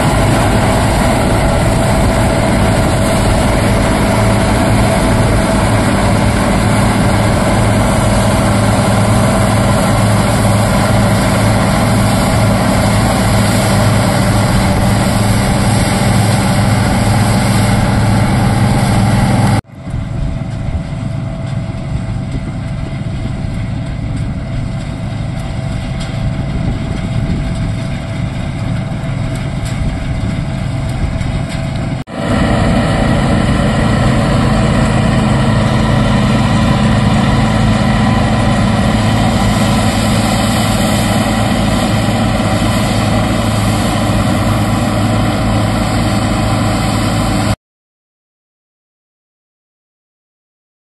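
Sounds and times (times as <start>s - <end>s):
heavy diesel engine running: 0.0s - 47.6s.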